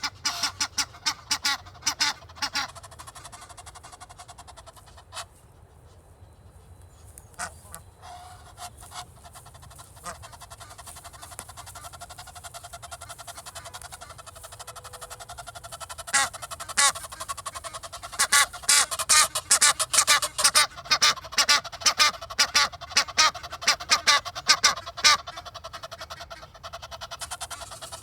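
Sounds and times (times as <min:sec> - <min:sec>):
geese honking: 0:00.0 - 0:05.5, 0:07.1 - 0:28.0.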